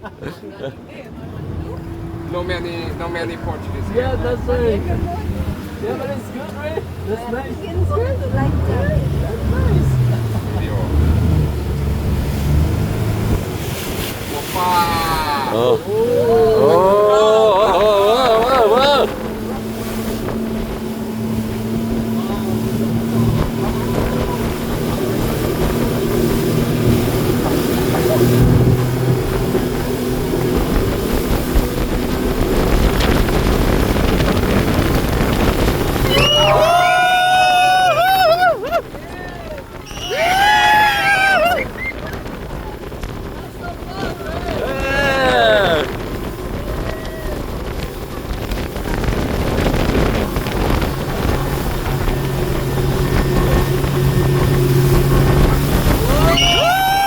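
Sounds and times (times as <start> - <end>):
rush of wind and water: 0.0 - 57.0
speedboat engine rumbling: 0.0 - 57.0
wind buffeting microphone: 0.8 - 57.0.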